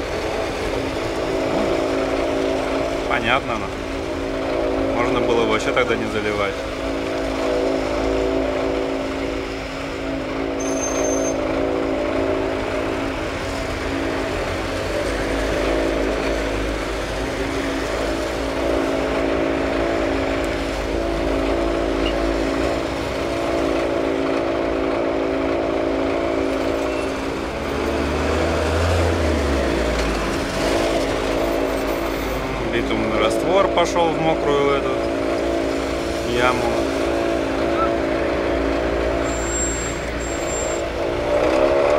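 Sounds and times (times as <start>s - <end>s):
engine droning hum: 0.0s - 41.9s.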